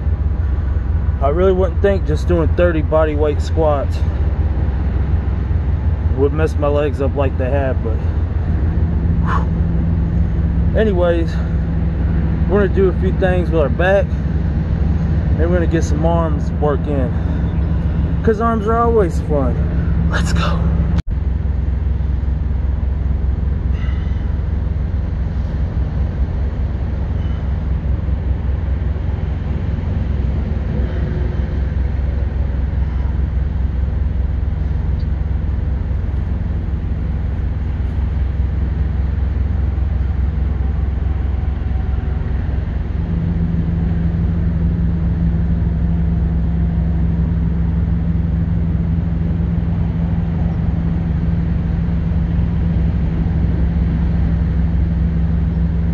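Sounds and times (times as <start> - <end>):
deep hum: 0.0 - 55.9
diesel truck engines idling: 0.0 - 55.9.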